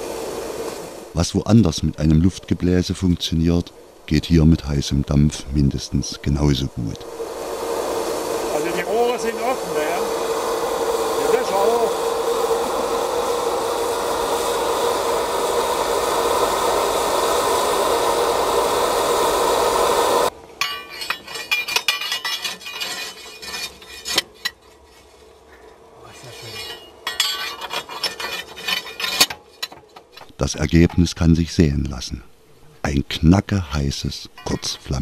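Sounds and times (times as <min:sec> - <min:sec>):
steam blower hissing: 0:00.0 - 0:31.6.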